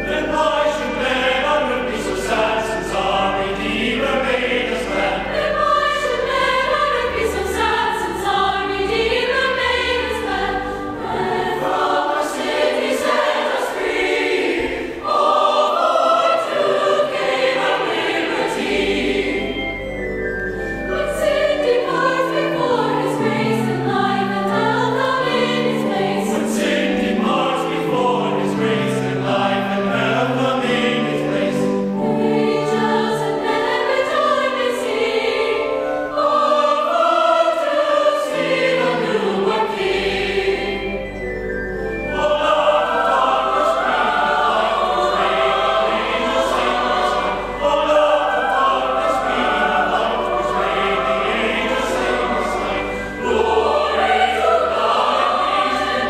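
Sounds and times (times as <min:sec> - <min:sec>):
mixed choir singing: 0:00.0 - 0:19.9, 0:20.8 - 0:41.2, 0:42.0 - 0:56.0.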